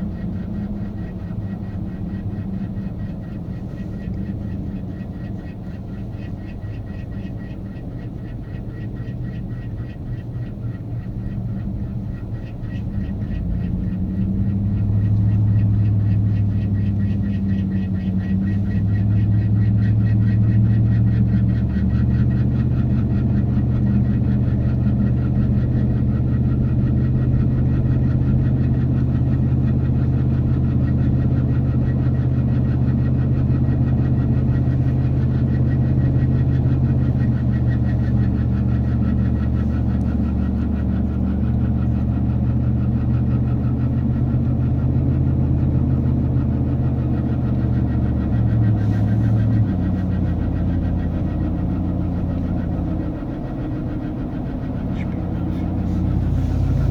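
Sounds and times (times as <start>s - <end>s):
pickup truck engine droning: 0.0s - 56.9s.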